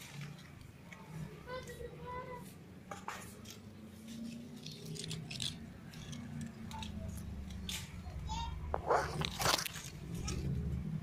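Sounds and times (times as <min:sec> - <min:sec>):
leaves rustling against phone: 0:00.0 - 0:10.8.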